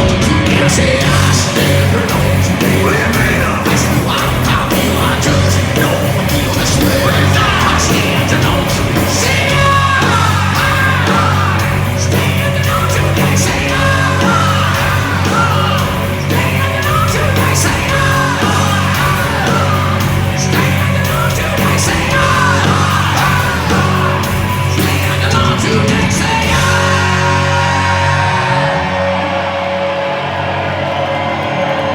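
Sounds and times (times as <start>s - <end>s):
hard rock band playing live: 0.0s - 31.9s
singer yelling and singing: 0.0s - 31.9s.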